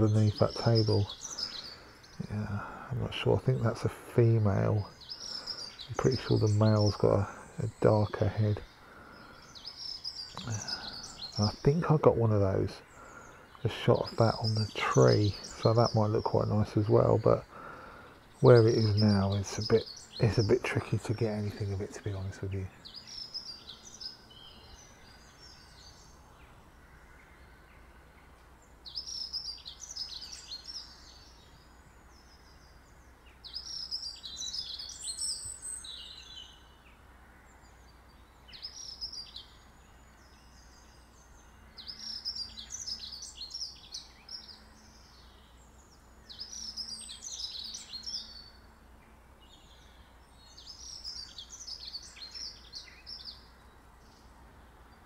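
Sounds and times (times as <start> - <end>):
faint outdoor background noise: 0.0 - 55.0
songbird singing: 0.0 - 55.0.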